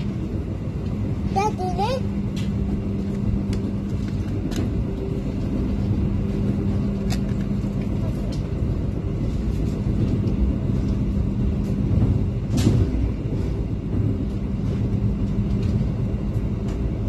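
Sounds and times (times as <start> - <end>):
steady hum: 0.0 - 17.0
train rumbling from inside coach: 0.0 - 17.0.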